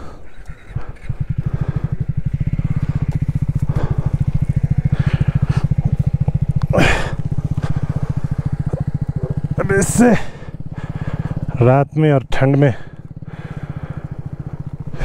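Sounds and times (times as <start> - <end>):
motorcycle engine starting and idling: 0.0 - 15.0.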